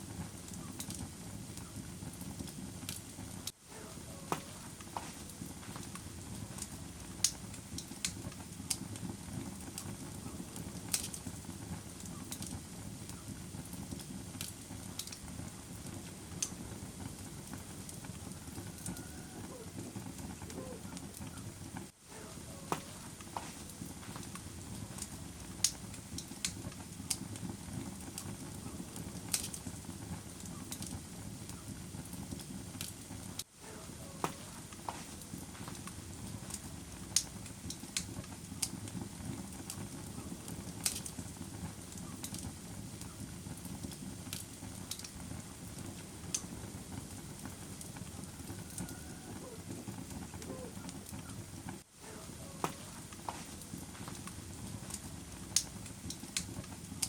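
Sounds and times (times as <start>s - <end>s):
fire crackles and pops: 0.0s - 57.0s
fire flames rumbling: 0.0s - 57.0s.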